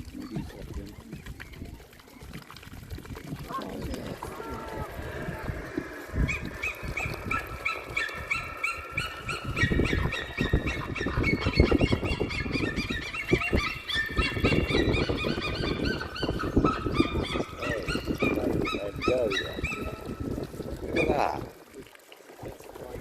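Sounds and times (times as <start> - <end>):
low rustling and splashing: 0.0 - 23.0
waterbirds calling: 0.0 - 23.0.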